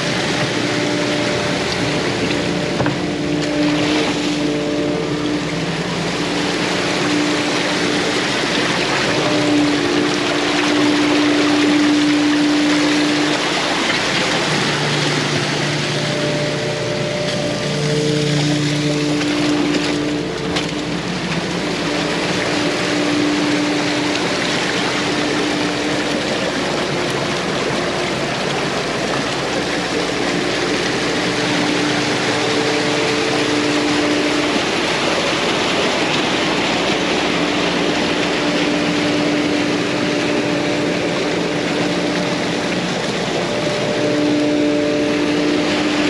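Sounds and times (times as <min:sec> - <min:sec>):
engine hum: 0:00.0 - 0:46.0
water rushing through breach: 0:00.0 - 0:46.0.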